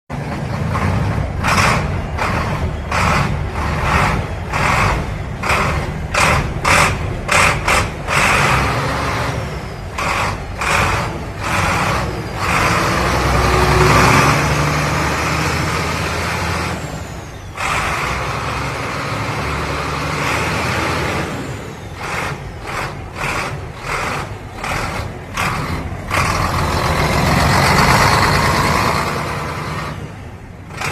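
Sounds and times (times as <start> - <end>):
heavy truck engine running: 0.1 - 30.9.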